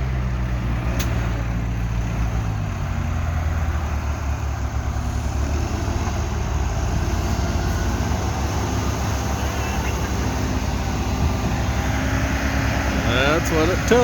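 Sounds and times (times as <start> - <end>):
heavy diesel engines droning: 0.0 - 14.0.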